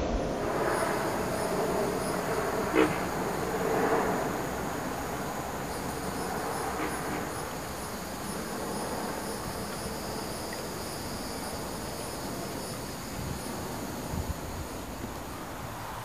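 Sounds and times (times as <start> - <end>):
low background hiss: 0.0 - 16.0
insects trilling: 0.2 - 16.0
pulsing high insect chirp: 0.2 - 16.0.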